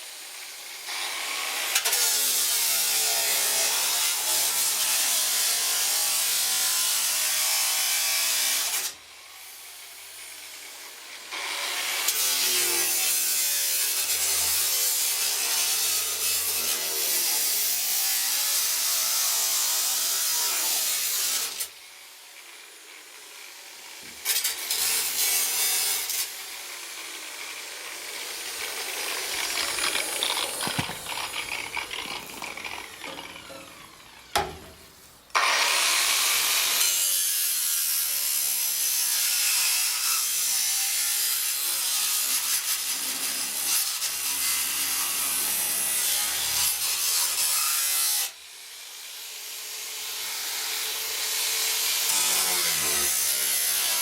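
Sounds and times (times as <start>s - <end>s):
angle grinder cutting sheet steel: 0.0s - 54.0s.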